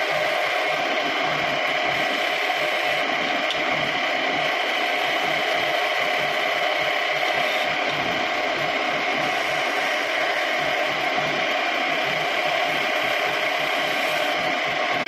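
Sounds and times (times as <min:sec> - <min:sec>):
wood lathe turning wood: 0:00.0 - 0:15.0.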